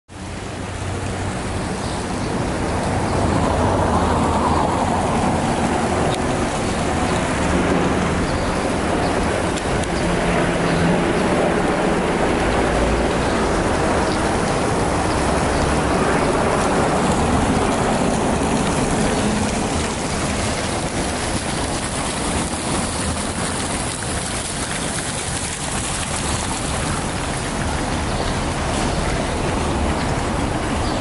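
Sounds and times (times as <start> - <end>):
fountain water splashing: 0.1 - 31.0
street traffic noise: 0.1 - 31.0.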